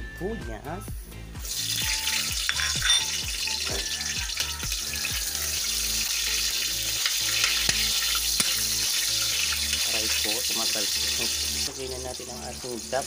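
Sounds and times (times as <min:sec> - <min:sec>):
garlic and onion sizzling in oil: 0:01.4 - 0:13.0.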